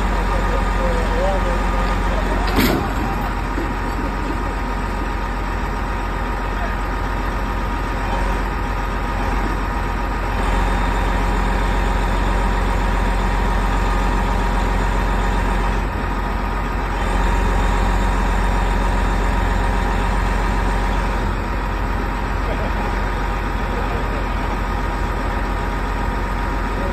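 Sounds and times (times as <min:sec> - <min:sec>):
diesel engines under load: 0:00.0 - 0:26.9.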